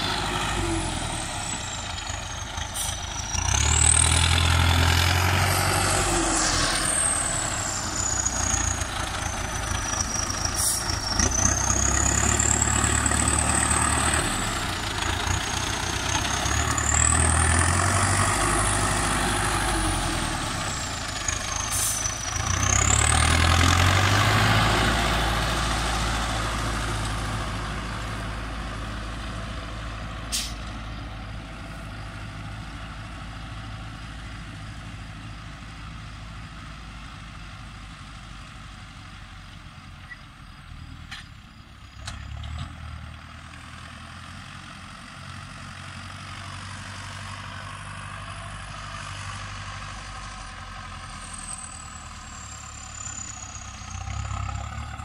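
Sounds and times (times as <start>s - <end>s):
tractor diesel engine driving past: 0.0s - 55.0s.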